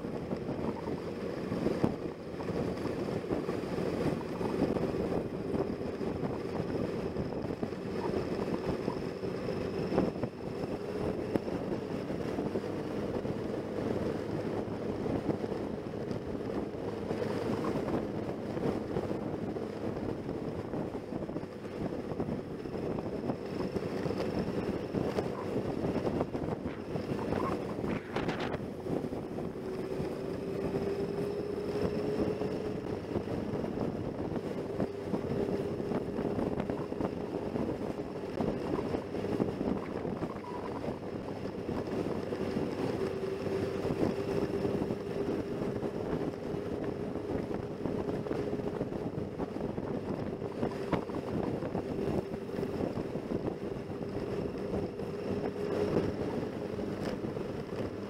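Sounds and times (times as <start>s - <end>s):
motorcycle engine cruising: 0.0s - 58.0s
wind rushing over microphone: 0.0s - 58.0s.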